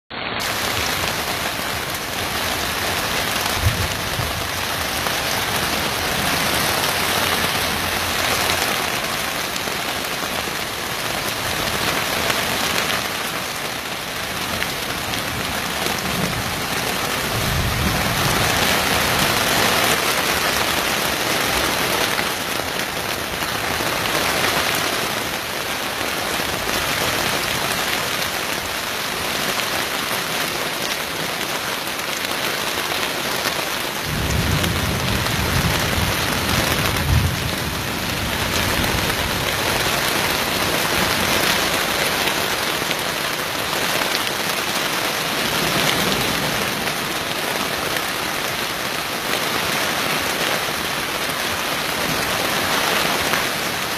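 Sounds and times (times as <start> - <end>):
heavy rain pouring: 0.1 - 53.9.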